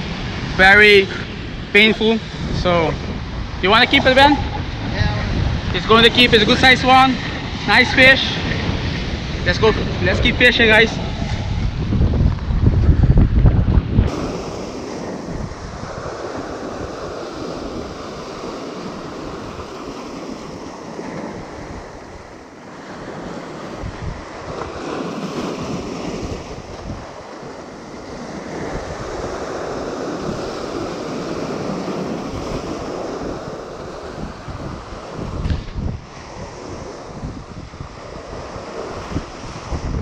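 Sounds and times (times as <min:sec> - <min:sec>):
sea surf on rocky shore: 0:00.0 - 0:40.0.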